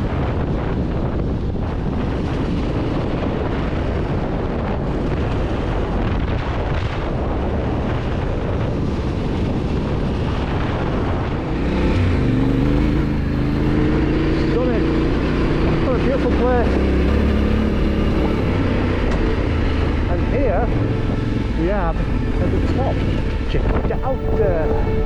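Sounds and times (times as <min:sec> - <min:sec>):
wind buffeting microphone: 0:00.0 - 0:25.0
motorcycle engine running: 0:00.9 - 0:25.0.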